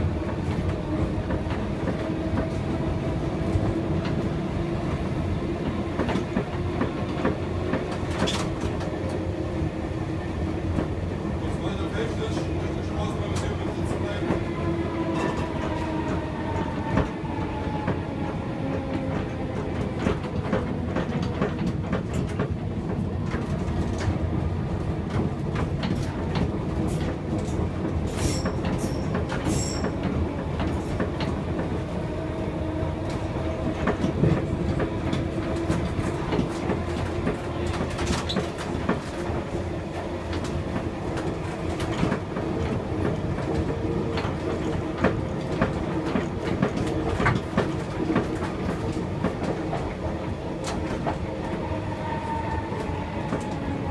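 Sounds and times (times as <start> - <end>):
tram wheels rumbling: 0.0 - 53.9.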